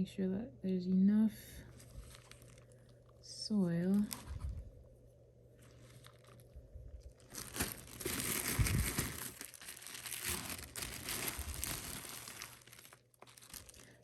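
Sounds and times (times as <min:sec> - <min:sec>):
plastic bag crinkling: 0:01.7 - 0:04.6, 0:05.5 - 0:14.0.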